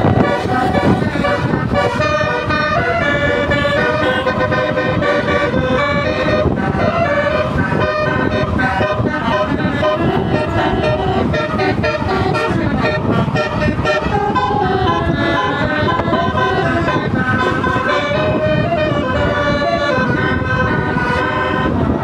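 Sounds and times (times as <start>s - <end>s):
bus musical horn playing a tune: 0.0s - 22.0s.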